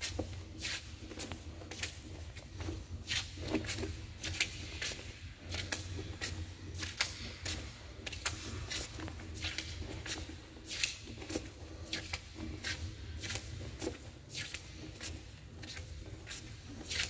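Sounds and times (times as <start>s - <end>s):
footsteps scuffing on concrete: 0.0s - 17.0s.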